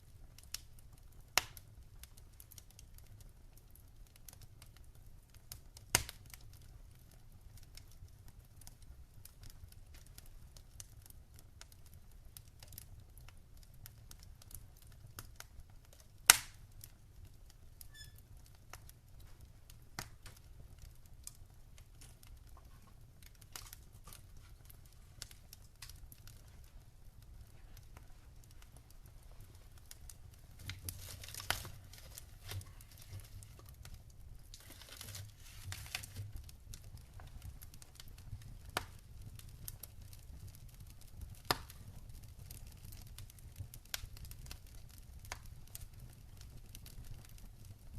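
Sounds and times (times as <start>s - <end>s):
fire crackling: 0.0s - 47.9s
loud sharp pops of fire: 0.1s - 3.2s, 5.5s - 7.9s, 12.5s - 16.9s, 17.8s - 47.8s.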